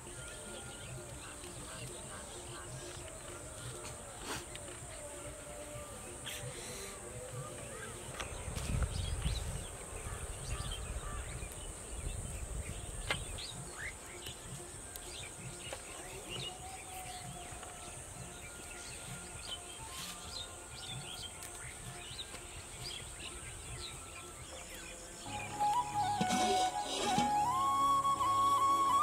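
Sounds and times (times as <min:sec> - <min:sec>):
high insect hiss: 0:00.0 - 0:29.0
small birds chirping: 0:00.0 - 0:29.0.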